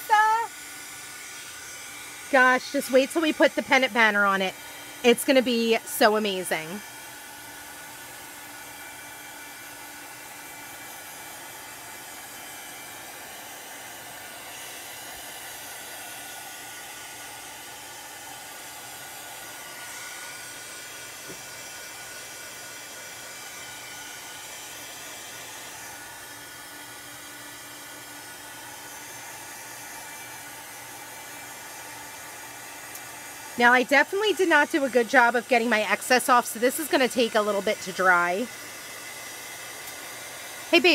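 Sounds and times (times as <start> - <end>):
handheld electric dryer blowing: 0.0 - 40.9.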